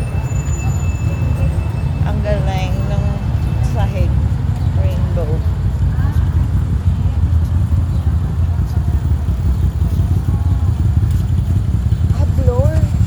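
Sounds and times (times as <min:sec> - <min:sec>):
faint voices: 0:00.0 - 0:13.0
low street rumble: 0:00.0 - 0:13.0.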